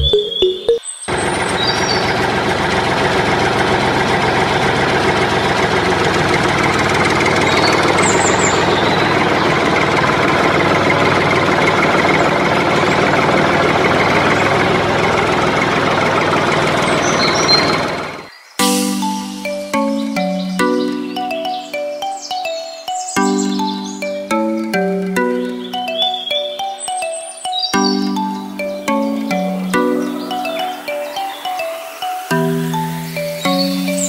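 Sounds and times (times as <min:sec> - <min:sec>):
diesel engine idling: 0:01.1 - 0:22.0, 0:23.2 - 0:26.8, 0:27.8 - 0:31.4.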